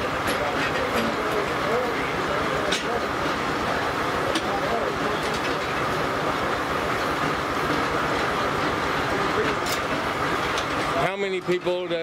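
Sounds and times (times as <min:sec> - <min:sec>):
circular saw mill running: 0:00.0 - 0:12.0
faint constant whine: 0:00.0 - 0:12.0.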